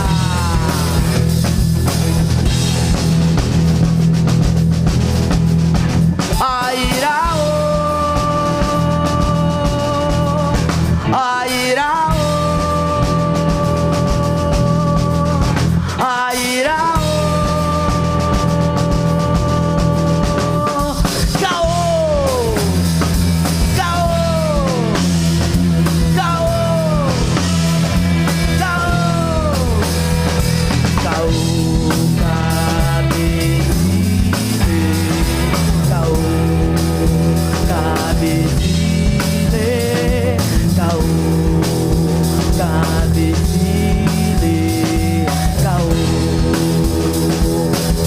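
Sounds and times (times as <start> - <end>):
electric guitar sliding lead line: 0.0 - 48.0
live rock band playing: 0.0 - 48.0.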